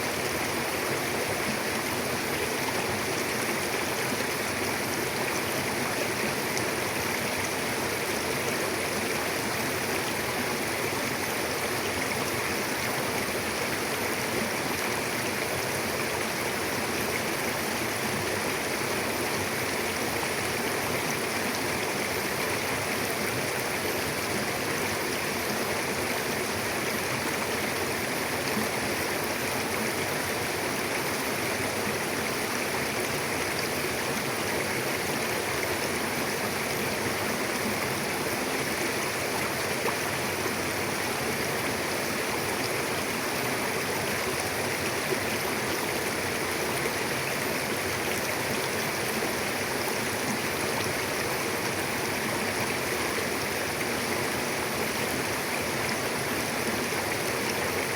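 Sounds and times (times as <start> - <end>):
river flowing over rocks: 0.0 - 57.9.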